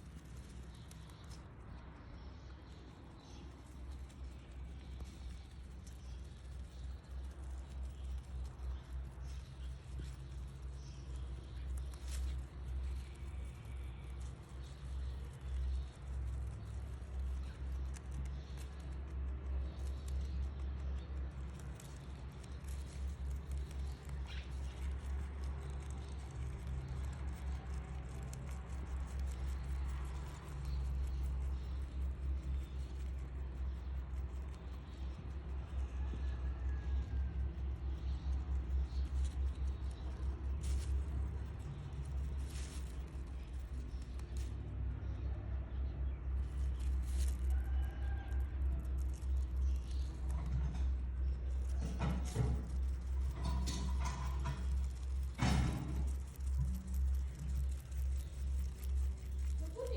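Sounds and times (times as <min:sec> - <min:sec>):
rabbits chewing greens: 0:00.0 - 0:59.9
steady low rumble: 0:00.0 - 0:59.9.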